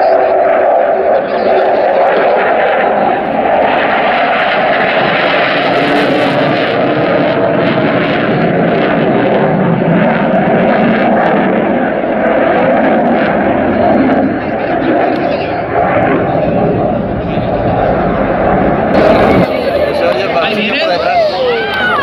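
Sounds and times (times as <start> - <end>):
loud jet noise overhead: 0.0 - 22.0.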